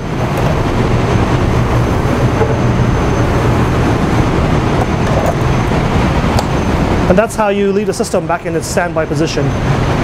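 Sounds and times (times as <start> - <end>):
air handling rumble and hum: 0.0 - 10.0.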